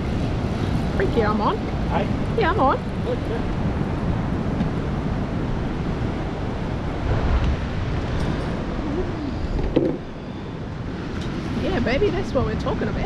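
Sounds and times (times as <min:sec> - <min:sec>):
rough surf: 0:00.0 - 0:13.0
wind buffeting microphone: 0:00.0 - 0:13.0.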